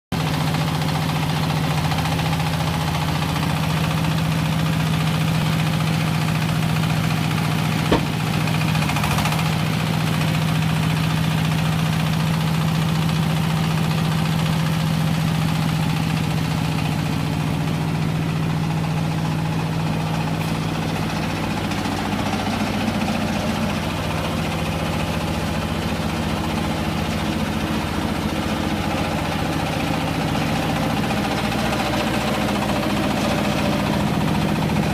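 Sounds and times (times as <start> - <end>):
baler machine droning: 3.4 - 11.2, 12.0 - 34.9.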